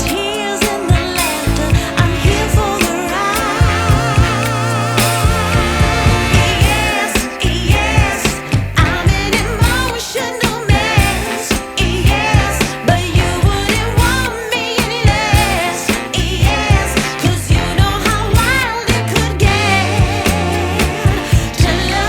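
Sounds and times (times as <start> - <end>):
drum beat: 0.0 - 22.0
pop song singing voice: 0.0 - 22.0.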